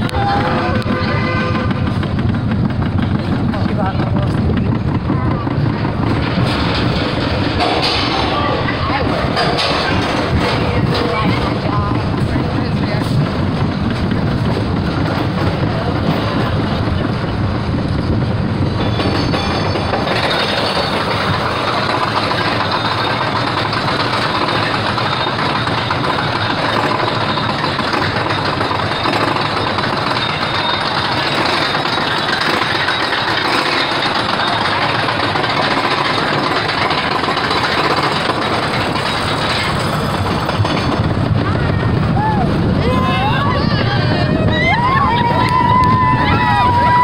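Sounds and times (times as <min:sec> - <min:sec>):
roller coaster wheels rumbling: 0:00.0 - 0:47.0.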